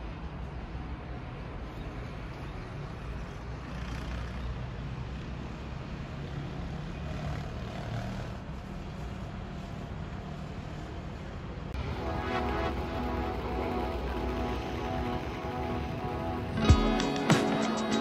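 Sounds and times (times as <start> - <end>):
distant road traffic rumble: 0.0 - 16.7.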